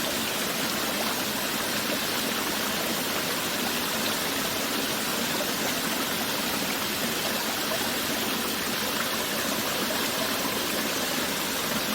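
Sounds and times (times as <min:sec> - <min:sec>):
running water rushing: 0:00.0 - 0:11.9.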